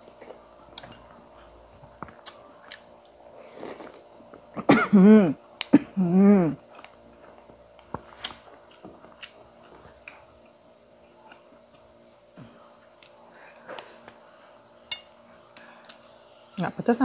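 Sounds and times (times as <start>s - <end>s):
soft chewing: 0.0s - 4.7s, 6.6s - 16.6s
faint steady hum: 0.0s - 17.0s.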